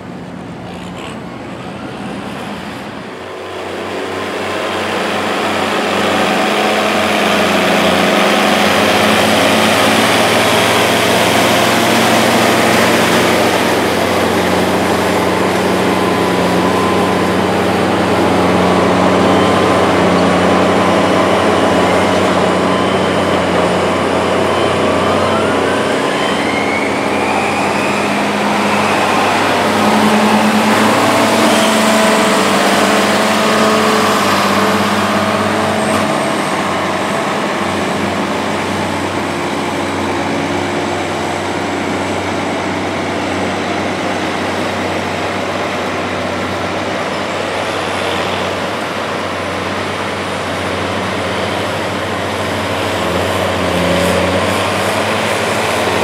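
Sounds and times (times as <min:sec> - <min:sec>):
diesel tractor engines running: 0:00.0 - 0:56.0.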